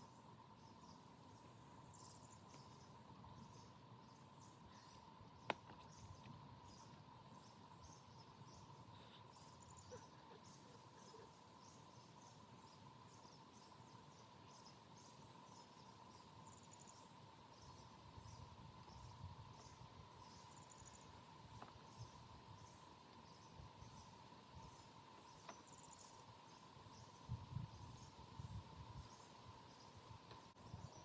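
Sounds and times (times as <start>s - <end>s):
faint steady hum: 0.0s - 31.0s
insects and birds chirping: 0.0s - 31.0s.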